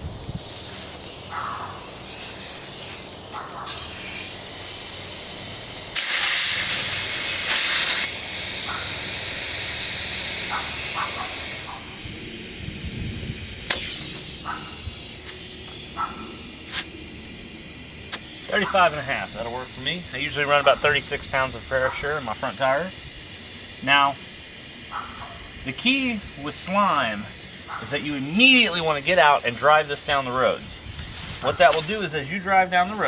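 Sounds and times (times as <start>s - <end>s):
compressed air hissing into tire: 0.0s - 33.0s.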